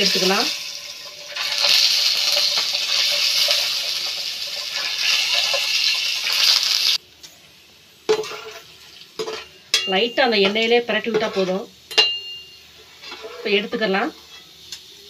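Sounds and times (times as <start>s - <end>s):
eggs sizzling in hot oil: 0.0s - 15.0s.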